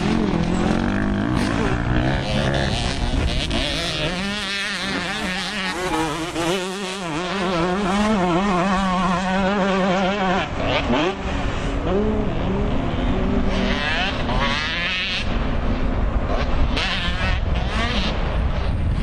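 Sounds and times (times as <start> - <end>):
dirt bike engines revving: 0.0 - 19.0
steady engine drone: 0.0 - 19.0.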